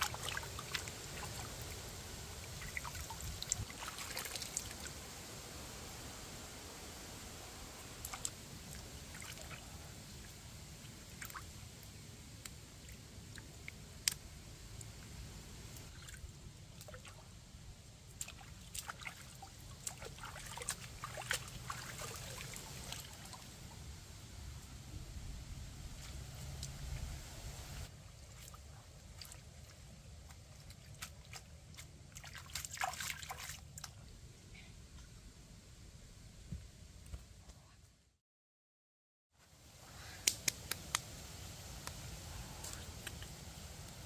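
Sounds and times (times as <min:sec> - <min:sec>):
water trickling and splashing: 0:00.0 - 0:24.8, 0:25.4 - 0:34.1, 0:40.2 - 0:44.0.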